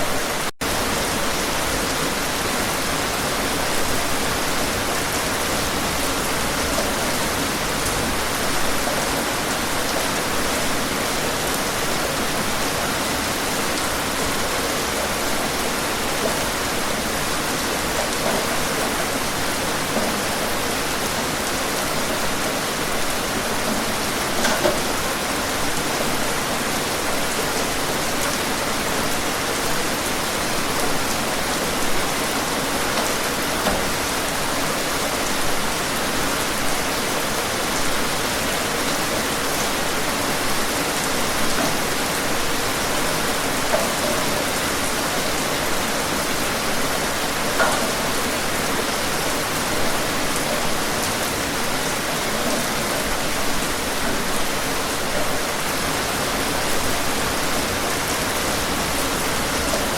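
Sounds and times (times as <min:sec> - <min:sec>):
raindrops hitting a surface: 0:00.0 - 0:59.9
steady rain hissing: 0:00.0 - 0:59.9.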